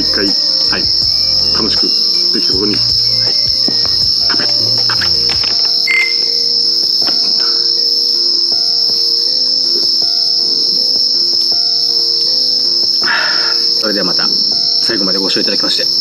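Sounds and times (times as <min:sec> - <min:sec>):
high-pitched insect chirring: 0:00.0 - 0:16.0.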